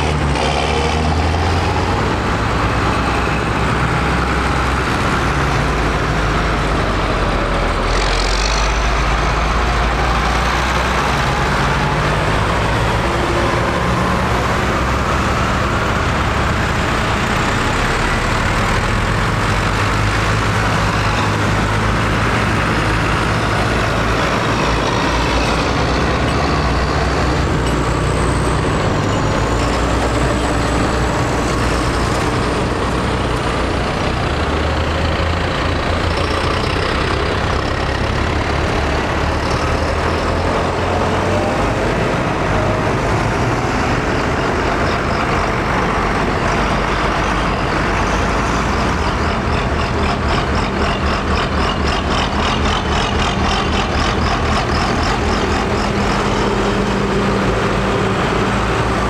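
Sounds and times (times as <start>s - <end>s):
tractor engines driving past: 0.0s - 59.0s
tyre noise on road: 0.0s - 59.0s.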